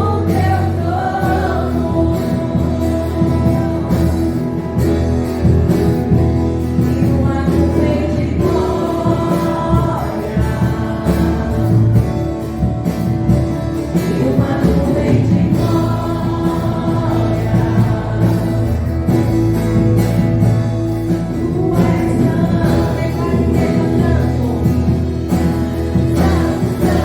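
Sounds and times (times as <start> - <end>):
band with bass and drums: 0.0 - 27.0
voices singing gospel: 0.0 - 27.0.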